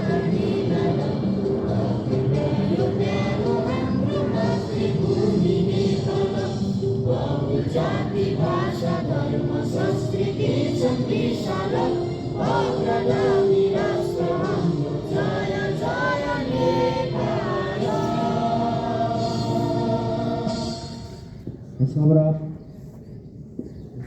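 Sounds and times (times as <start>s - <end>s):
group singing in chorus: 0.0s - 21.4s
music: 0.0s - 21.6s.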